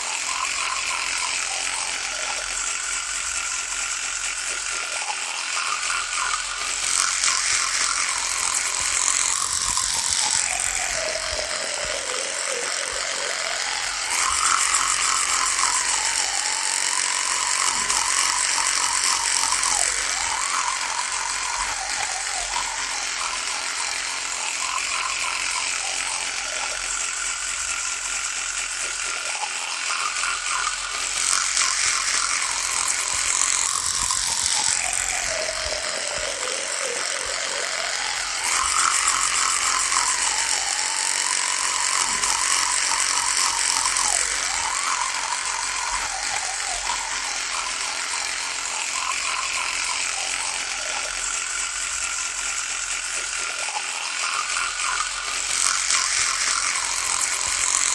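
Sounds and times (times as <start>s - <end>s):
electric toothbrush buzzing: 0.0s - 57.9s.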